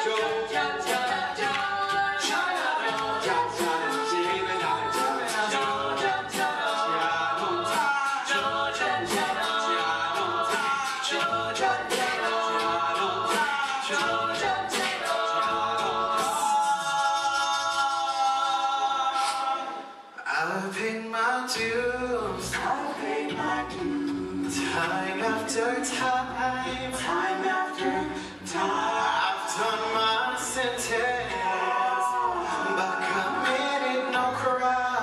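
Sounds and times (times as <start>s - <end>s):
voices singing in harmony: 0.0s - 20.8s, 21.5s - 35.0s
beatboxing: 0.0s - 20.9s, 21.5s - 35.0s.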